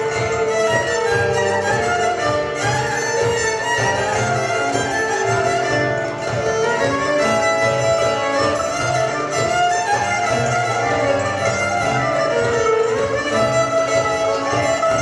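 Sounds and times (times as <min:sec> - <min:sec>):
low accompaniment: 0:00.0 - 0:15.0
violins playing folk tune: 0:00.0 - 0:15.0.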